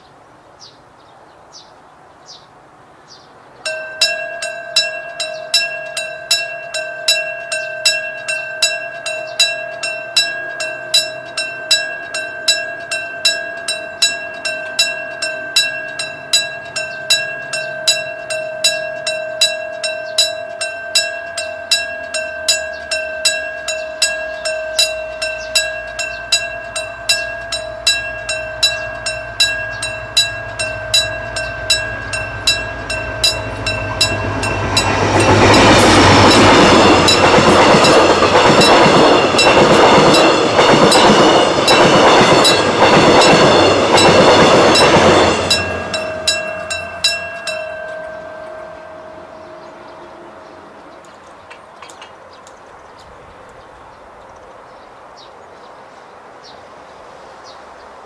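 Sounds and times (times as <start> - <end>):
level crossing warning bell: 3.6 - 51.5
train wheels on rails: 3.6 - 52.8.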